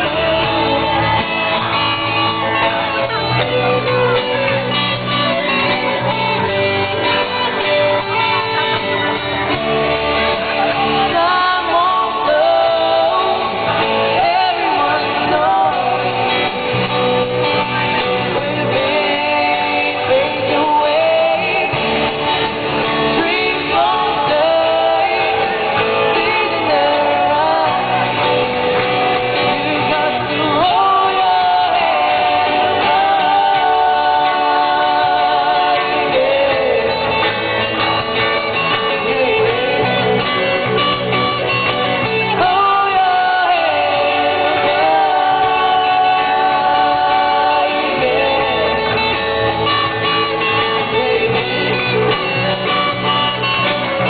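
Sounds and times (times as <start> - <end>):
live band playing: 0.0 - 54.0
person singing: 0.0 - 54.0.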